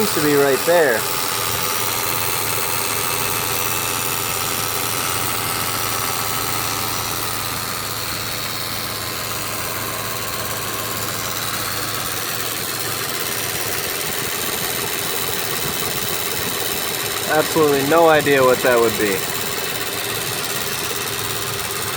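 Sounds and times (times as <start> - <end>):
electrical buzzing: 0.0 - 21.6
car engine running: 0.0 - 21.9.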